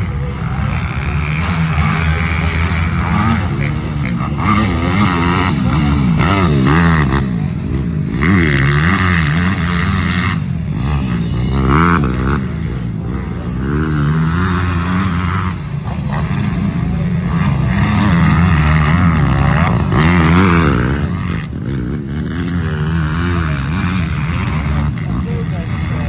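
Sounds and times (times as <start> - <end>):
pit bike engines revving: 0.0 - 26.0.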